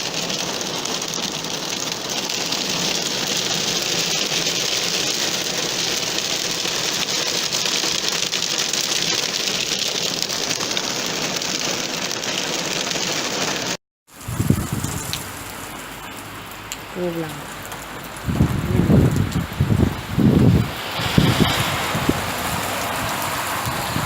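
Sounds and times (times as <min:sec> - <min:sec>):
hail rattling: 0:00.0 - 0:24.0.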